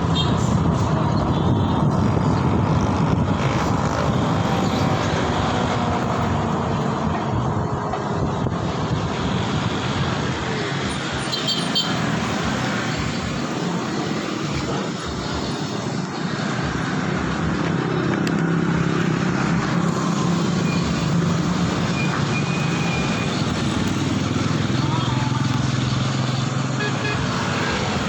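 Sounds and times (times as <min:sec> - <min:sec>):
traffic rush: 0:00.0 - 0:28.0
wind: 0:00.0 - 0:28.0.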